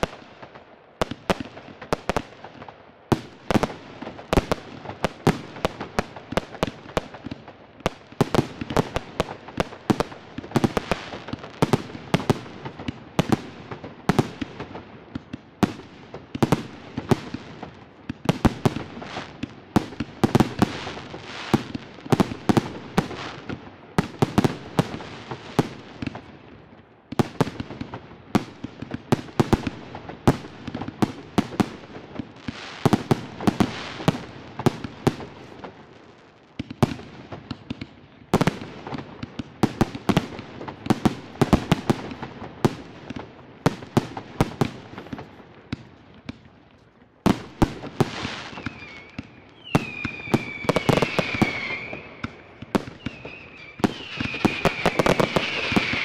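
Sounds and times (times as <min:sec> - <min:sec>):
firework crackling: 0:00.0 - 0:26.3, 0:27.2 - 0:45.8, 0:47.3 - 0:56.0.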